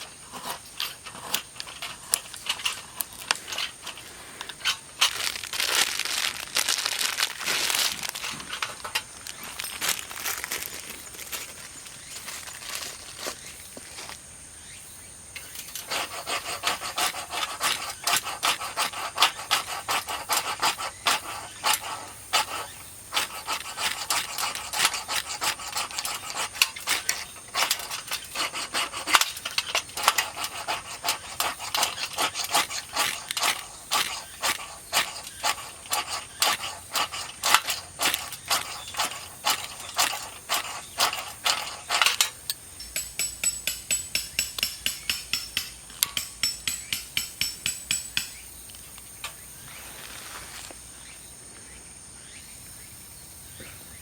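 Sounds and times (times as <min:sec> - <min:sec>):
hand tool rasping wood: 0:00.0 - 0:13.5, 0:15.4 - 0:50.6.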